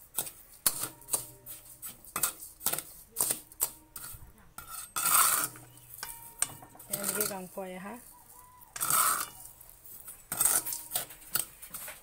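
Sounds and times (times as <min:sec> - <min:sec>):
gritty scrape: 0:00.0 - 0:12.0
metal skimmer scraping wok: 0:00.0 - 0:12.0.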